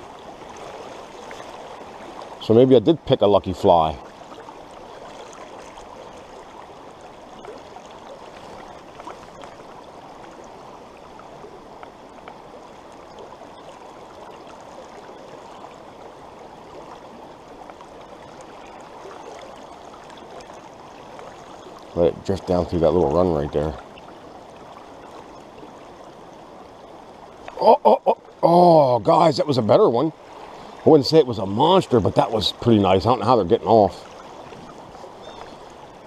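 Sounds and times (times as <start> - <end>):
brook running over rocks: 0.0 - 36.0.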